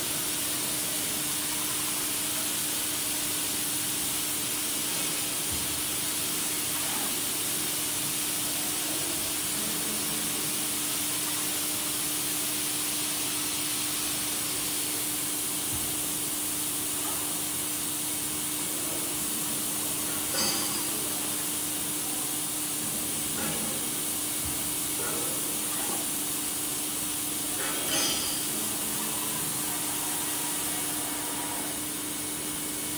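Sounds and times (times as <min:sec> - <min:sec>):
machine hiss and hum: 0:00.0 - 0:32.9.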